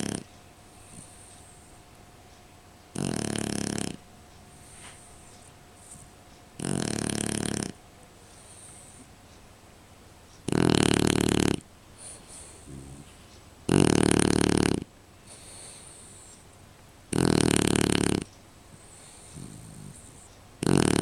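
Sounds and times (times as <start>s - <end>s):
puppy snoring: 0.0s - 1.8s, 2.9s - 9.1s, 10.4s - 16.5s, 17.1s - 21.0s
soft breaths: 0.0s - 16.7s, 17.6s - 21.0s.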